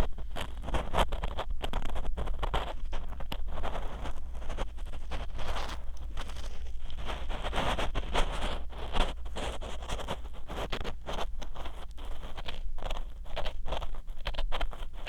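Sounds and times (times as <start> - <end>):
ear pick scratching microphone: 0.0 - 15.0.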